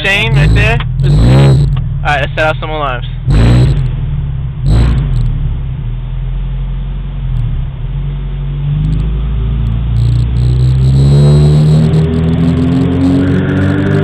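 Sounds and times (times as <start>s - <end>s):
car engine rumbling and revving: 0.0s - 14.0s.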